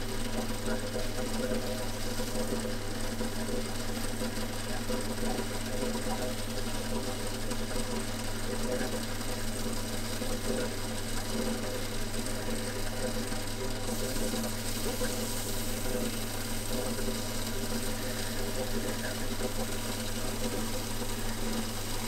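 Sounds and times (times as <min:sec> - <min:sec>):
workshop machine motor hum: 0:00.0 - 0:22.0.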